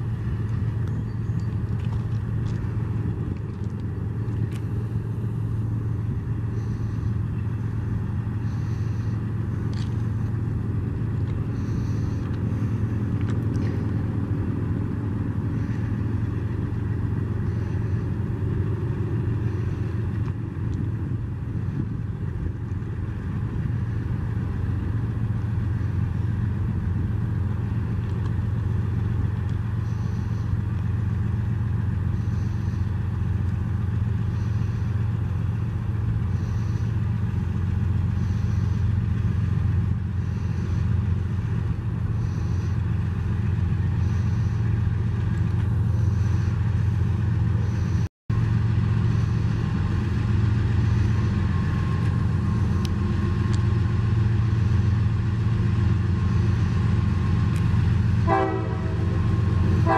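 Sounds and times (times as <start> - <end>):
car rumbling on road: 0.0 - 59.9.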